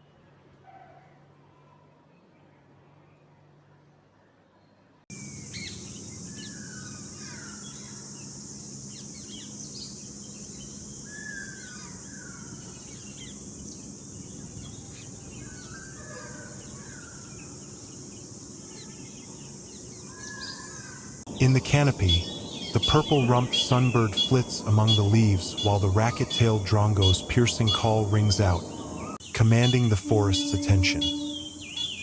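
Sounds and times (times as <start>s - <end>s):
bird calls and chirps: 4.2s - 32.0s
high-pitched insect drone: 5.1s - 28.6s, 29.4s - 32.0s.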